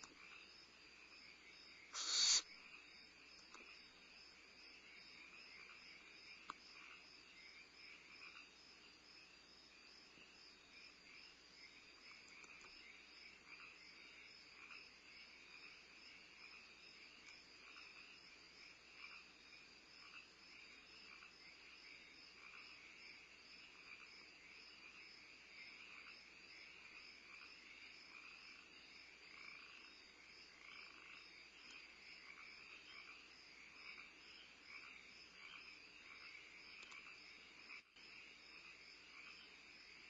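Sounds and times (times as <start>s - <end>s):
frogs croaking: 0.0s - 40.0s
insect trill: 0.2s - 40.0s.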